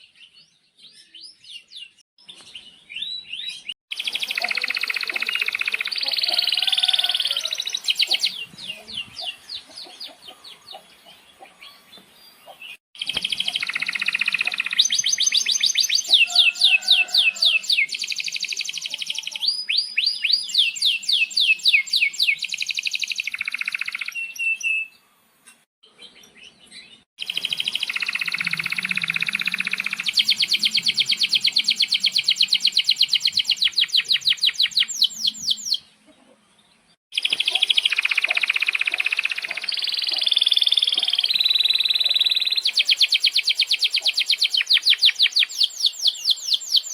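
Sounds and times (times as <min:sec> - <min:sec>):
canary trilling song: 0:00.1 - 0:25.0, 0:25.9 - 0:35.9, 0:37.1 - 0:46.9.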